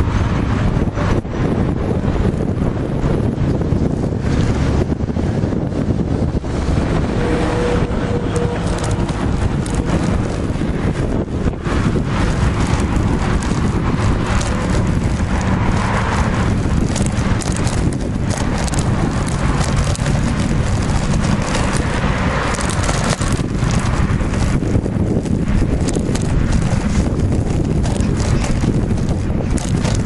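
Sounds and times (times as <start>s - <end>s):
cars passing: 0.0s - 30.0s
wind rushing over microphone: 0.0s - 30.0s.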